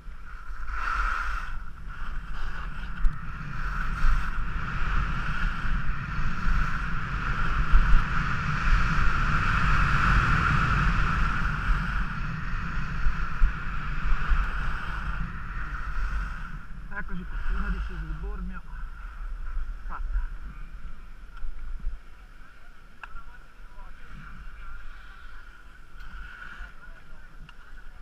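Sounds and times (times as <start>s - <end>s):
skis scraping over snow: 0.0s - 28.0s
wind rushing over microphone: 0.0s - 28.0s.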